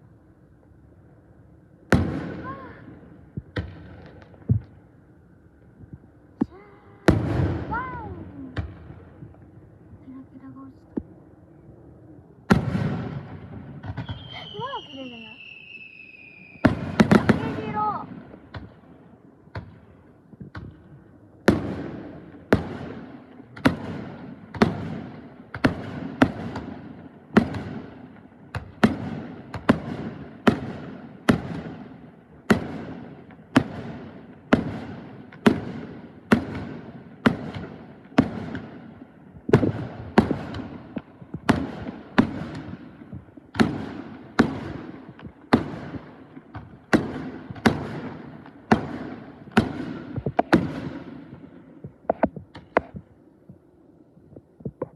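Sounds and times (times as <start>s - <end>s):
fireworks bursting with echo: 1.8s - 5.0s, 5.8s - 11.6s, 12.4s - 53.6s.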